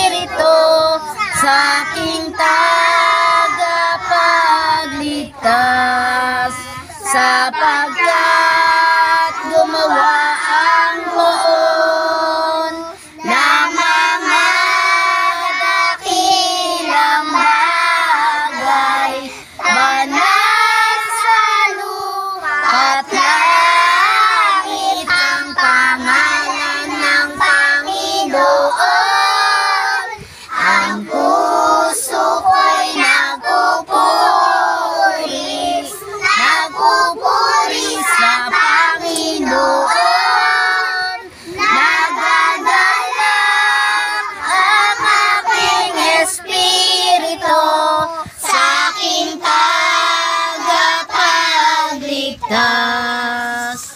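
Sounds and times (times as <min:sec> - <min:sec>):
children singing in unison: 0:00.0 - 0:53.9.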